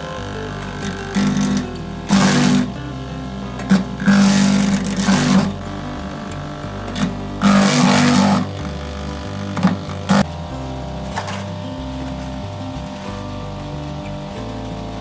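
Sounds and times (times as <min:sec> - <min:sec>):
fruit slicer motor humming: 0:00.0 - 0:15.0.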